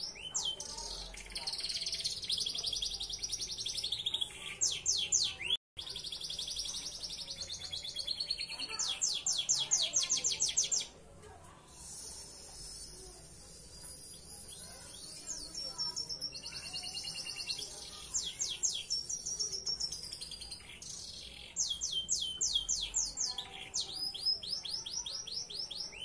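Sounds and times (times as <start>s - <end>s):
canary singing trills: 0.0s - 11.0s, 11.7s - 26.0s.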